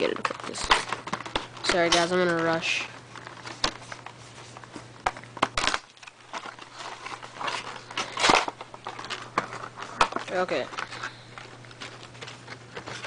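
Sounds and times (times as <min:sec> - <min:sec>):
packaging crinkle: 0:00.0 - 0:13.0.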